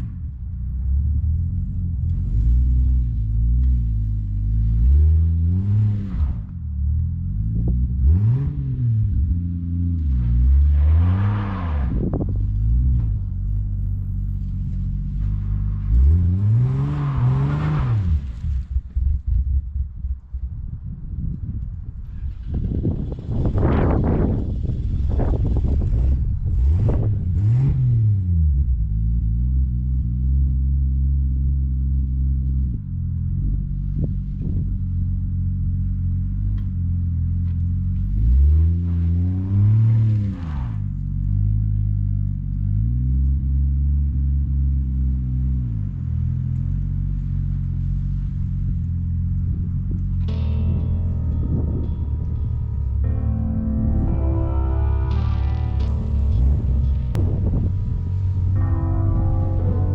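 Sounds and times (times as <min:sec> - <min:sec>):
car engine revving: 0:00.0 - 0:19.2, 0:22.1 - 0:59.9.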